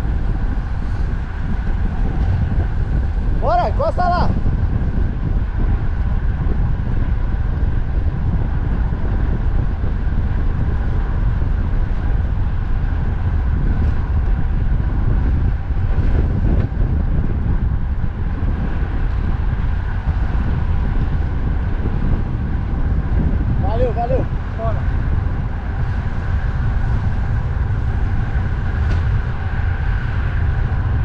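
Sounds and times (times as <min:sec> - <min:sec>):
road traffic hum: 0:00.0 - 0:31.0
wind buffeting microphone: 0:00.0 - 0:31.0.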